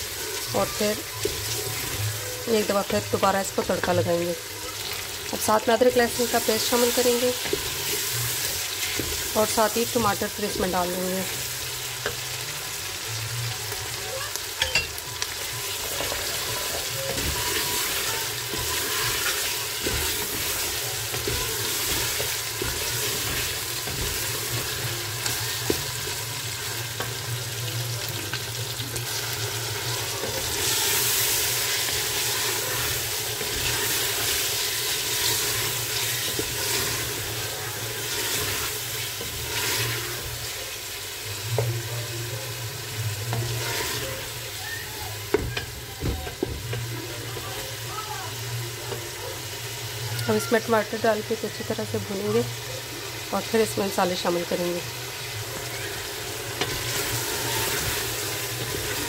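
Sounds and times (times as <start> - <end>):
chicken and onion sizzling in oil: 0.0 - 59.0.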